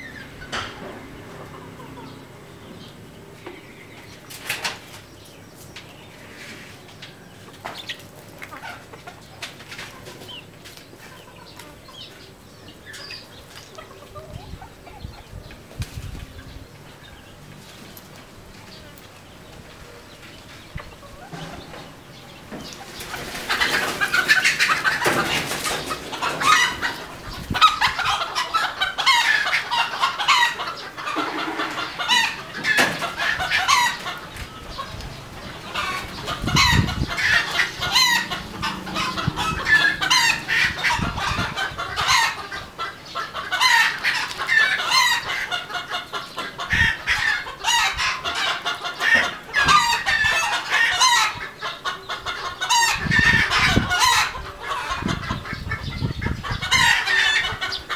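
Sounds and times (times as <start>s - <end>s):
chickens clucking and calling: 0.0s - 57.9s.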